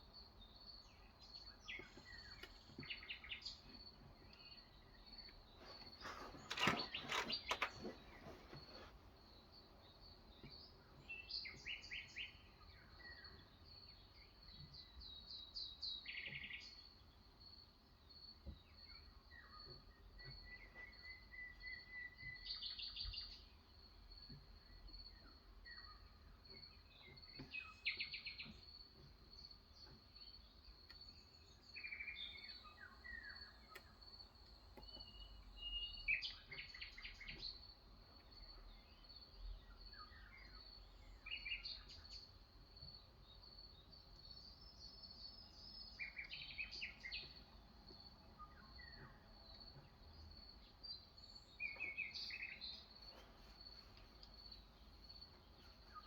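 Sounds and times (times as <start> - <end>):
faint songbirds chirping: 0.0 - 56.0.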